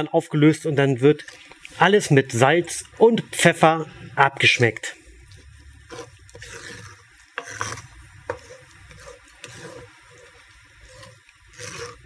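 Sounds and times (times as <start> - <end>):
wooden spoon stirring thick sauce: 1.1 - 3.5, 4.4 - 12.0.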